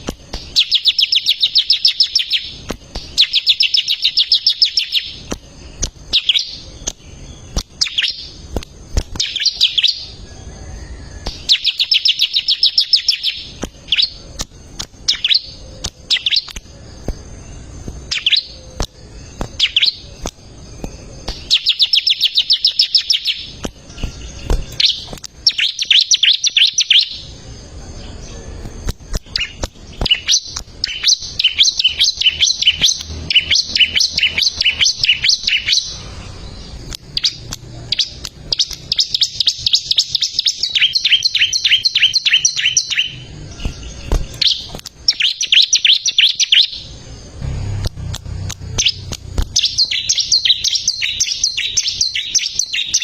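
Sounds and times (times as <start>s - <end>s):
bird singing buzzy trills: 0.0s - 53.0s
sharp bird chirps: 0.0s - 53.0s.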